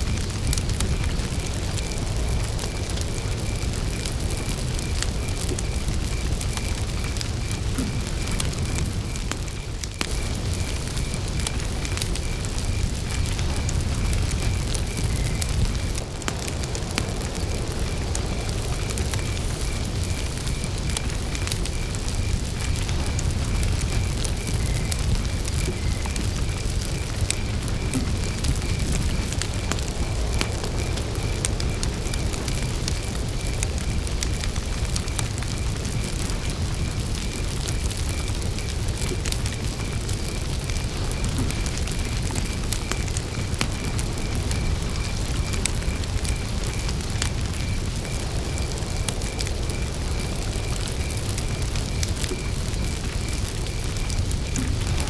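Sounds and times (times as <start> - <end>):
campfire crackling: 0.0 - 55.0
cricket chirping: 0.0 - 55.0.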